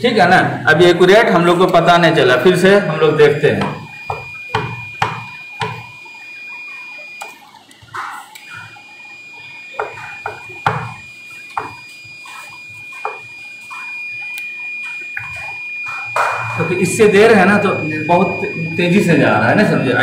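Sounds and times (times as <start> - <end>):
multimeter continuity beep: 0.0 - 20.0.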